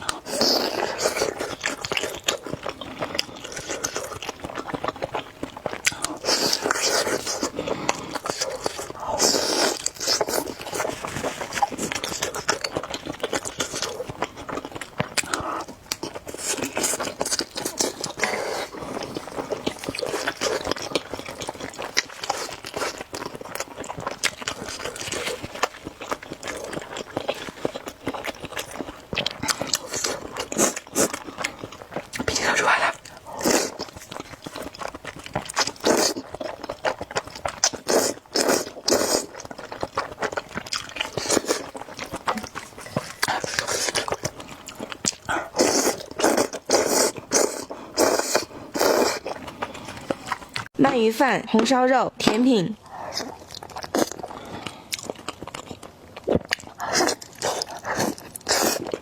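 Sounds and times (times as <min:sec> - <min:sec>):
person chewing noodles: 0:00.0 - 0:50.7, 0:52.8 - 0:59.0.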